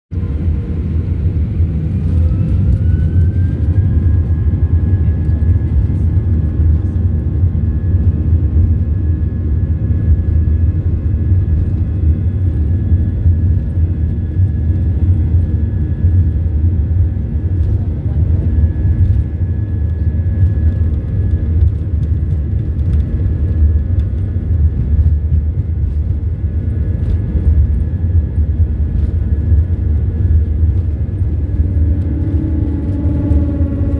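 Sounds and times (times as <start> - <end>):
heavy low rumble: 0.1 - 33.9.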